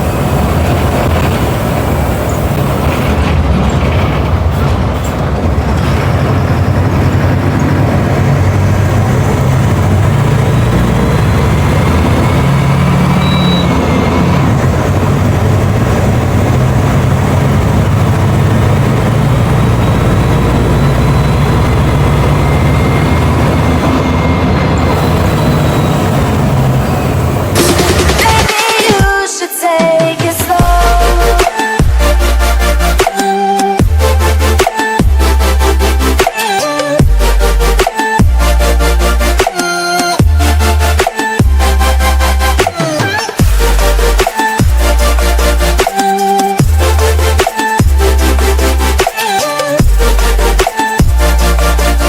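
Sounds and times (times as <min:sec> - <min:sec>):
bus diesel engine drone: 0:00.0 - 0:29.2, 0:30.2 - 0:52.0.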